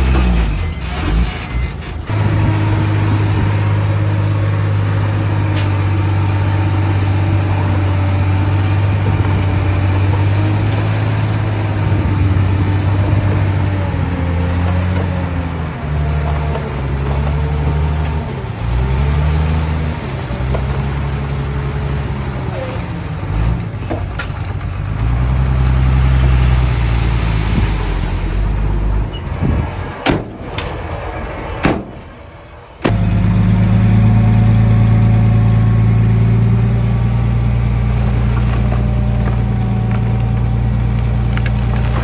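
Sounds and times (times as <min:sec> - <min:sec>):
heavy diesel engine revving: 0:00.0 - 0:42.0.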